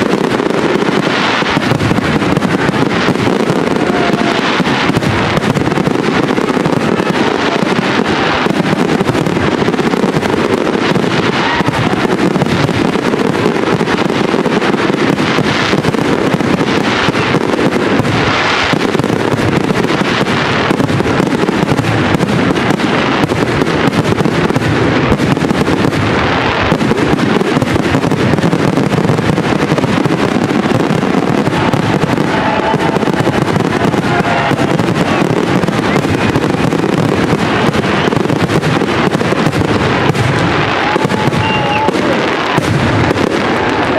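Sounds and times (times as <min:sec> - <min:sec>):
fireworks bangs and crackle: 0:00.0 - 0:43.9.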